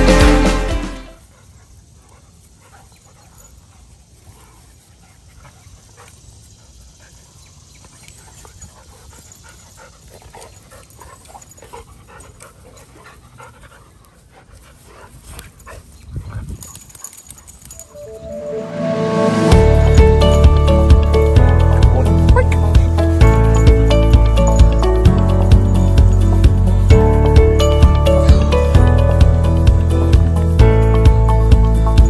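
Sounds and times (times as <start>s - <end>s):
dogs panting: 1.2s - 18.0s, 19.5s - 32.0s.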